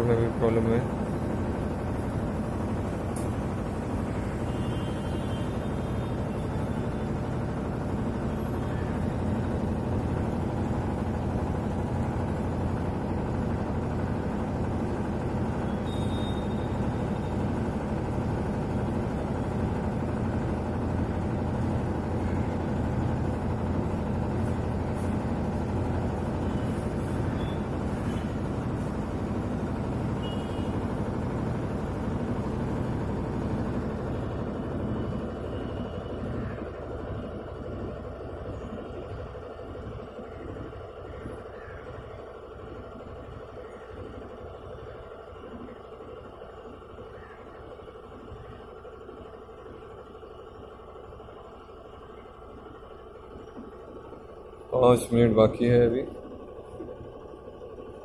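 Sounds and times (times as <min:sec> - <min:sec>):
washing machine spin cycle humming: 0:00.0 - 0:58.0.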